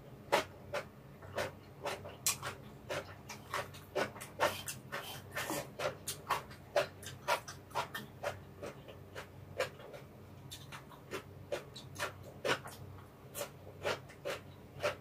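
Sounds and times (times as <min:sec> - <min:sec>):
wet chewing and lip smacks: 0:00.4 - 0:15.0.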